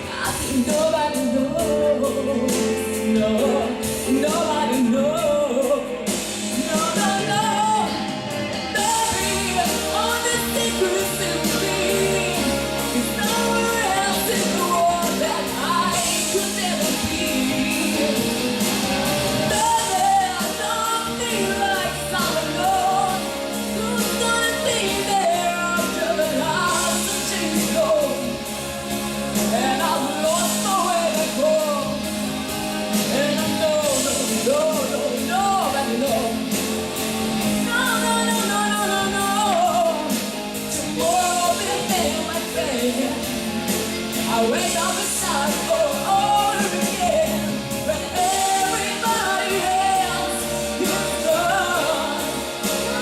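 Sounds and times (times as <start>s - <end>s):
person singing: 0.0s - 53.0s
pop ballad accompaniment: 0.0s - 53.0s.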